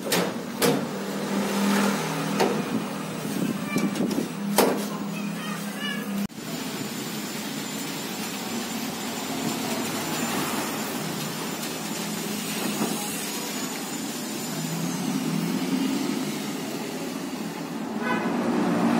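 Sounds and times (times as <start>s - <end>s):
road noise: 0.0s - 18.9s.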